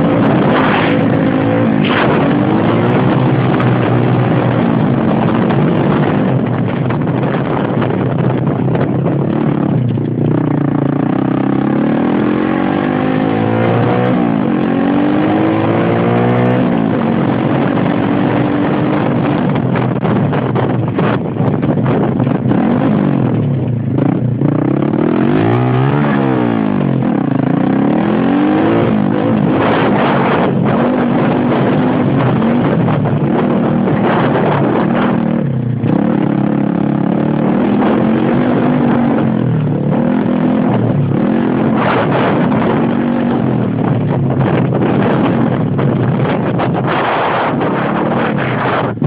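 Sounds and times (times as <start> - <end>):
pit bike engine revving: 0.0 - 21.2, 21.8 - 49.0.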